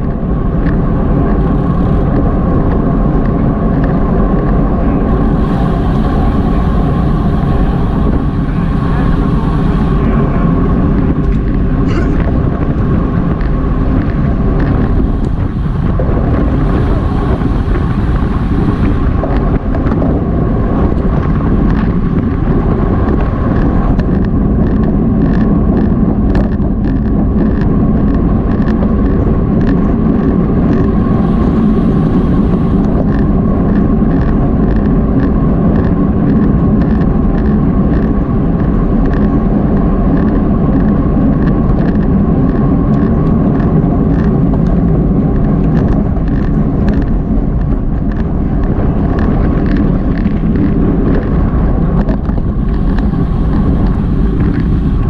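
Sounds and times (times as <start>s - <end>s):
bicycle tyre and drivetrain noise: 0.0s - 55.0s
steady whine: 0.0s - 55.0s
wind rushing on microphone: 0.0s - 55.0s.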